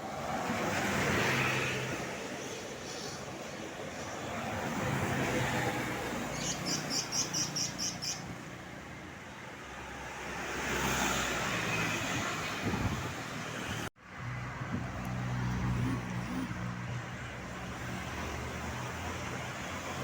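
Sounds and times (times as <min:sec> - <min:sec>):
vehicle passing by: 0:00.0 - 0:02.7, 0:04.0 - 0:08.7, 0:09.6 - 0:20.0
roadside traffic noise: 0:00.0 - 0:20.0.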